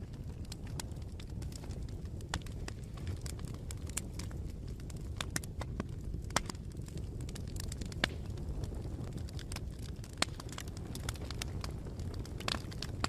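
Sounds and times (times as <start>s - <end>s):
bonfire rumbling and crackling: 0.0s - 13.0s.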